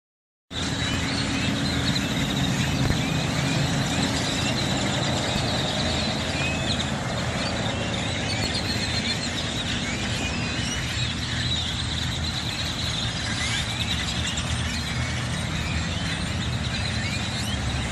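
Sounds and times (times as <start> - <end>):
flock of birds chirping: 0.5 - 17.9.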